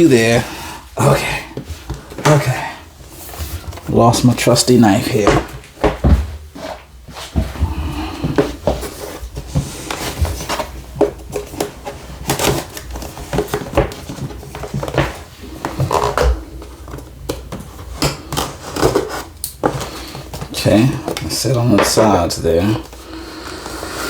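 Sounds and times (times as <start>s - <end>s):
packaging rustling and scraping: 0.0s - 24.0s.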